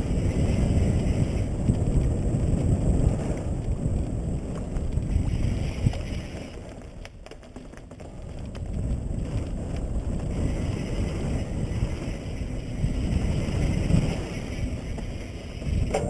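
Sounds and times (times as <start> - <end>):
bike tyres on dirt trail: 0.0 - 16.0
wind buffeting microphone: 0.0 - 16.0.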